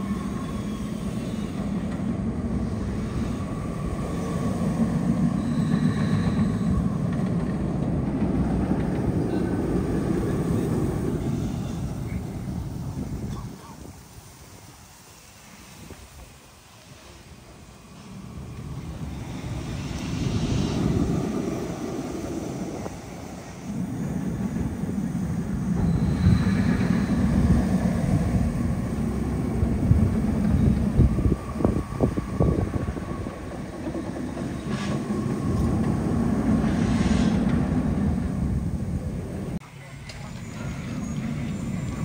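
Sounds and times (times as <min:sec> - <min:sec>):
roller coaster train rumbling: 0:00.0 - 0:42.0.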